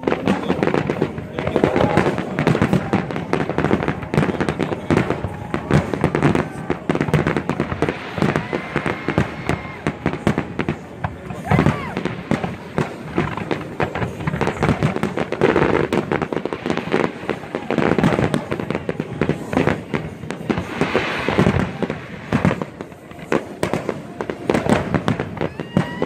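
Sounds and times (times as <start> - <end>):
fireworks bangs: 0.0 - 26.0
fireworks hiss: 0.0 - 26.0.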